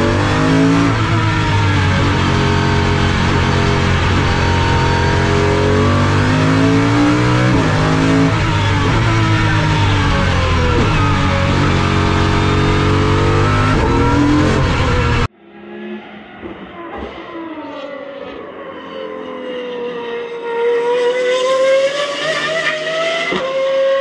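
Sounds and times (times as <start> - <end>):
car engine accelerating: 0.0 - 24.0
distant car engine: 0.0 - 24.0.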